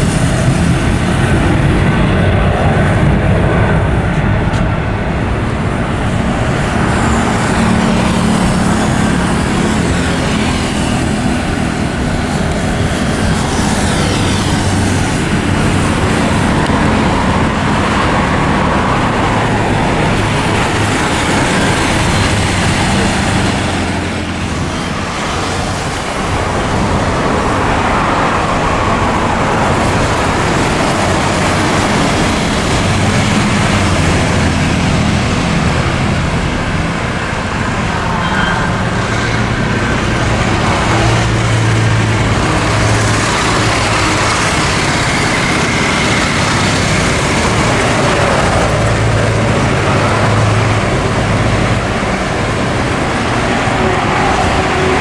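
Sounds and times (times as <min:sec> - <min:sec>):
high engine whine: 0:00.0 - 0:55.0
jet engines running: 0:00.0 - 0:55.0.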